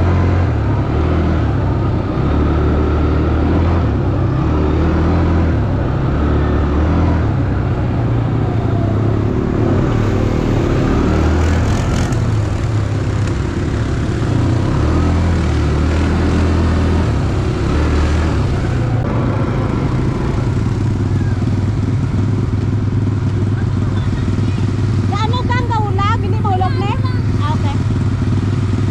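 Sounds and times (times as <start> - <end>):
quad bike engine revving: 0.0 - 28.9.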